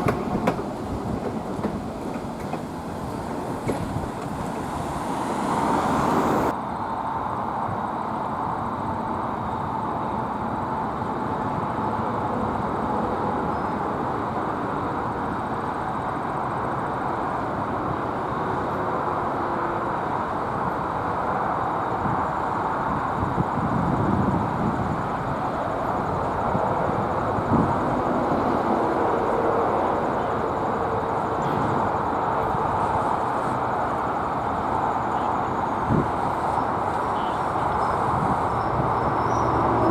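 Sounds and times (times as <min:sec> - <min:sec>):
diesel locomotive rumbling: 0:00.0 - 0:06.6, 0:08.3 - 0:39.9
train noise: 0:00.0 - 0:39.9.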